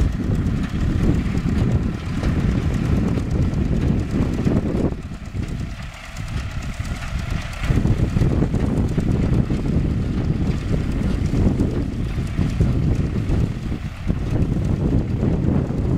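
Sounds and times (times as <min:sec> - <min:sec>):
tractor diesel engine under load: 0:00.0 - 0:15.9.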